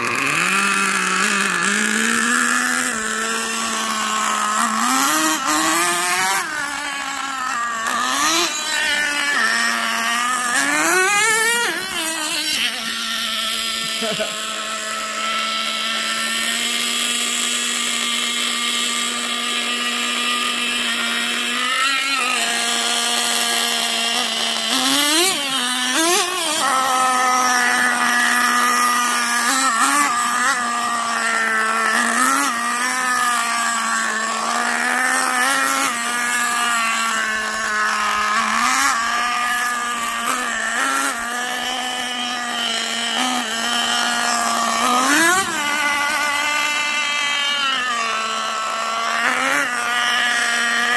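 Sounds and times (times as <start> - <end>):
small two-stroke engine revving: 0.0 - 50.9.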